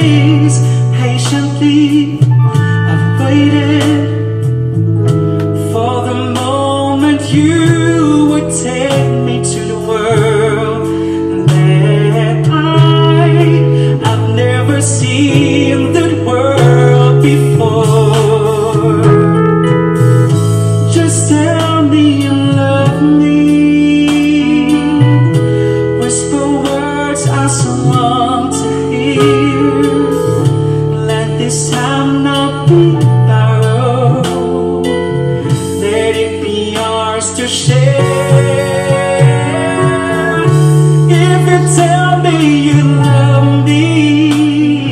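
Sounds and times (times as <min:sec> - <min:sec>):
man singing: 0:00.0 - 0:04.5, 0:05.6 - 0:19.5, 0:20.8 - 0:44.9
backing track: 0:00.0 - 0:44.9.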